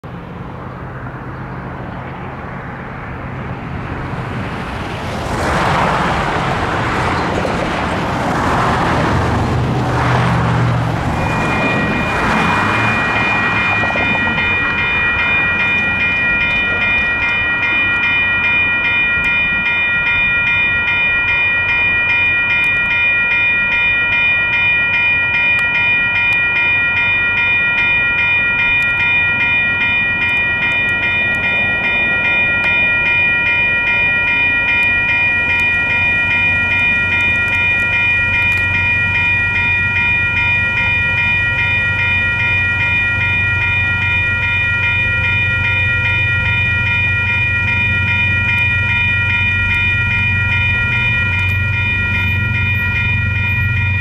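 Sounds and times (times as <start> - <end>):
crossing bells ringing: 0.0 - 54.0
road traffic: 0.0 - 54.0.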